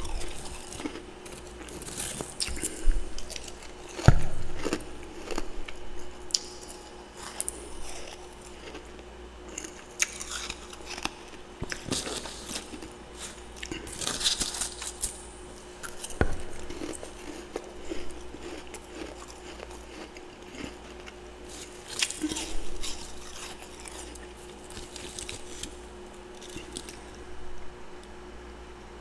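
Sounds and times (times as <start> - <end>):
frost crunching and crackling: 0.0 - 27.2
faint low hum: 0.0 - 29.0.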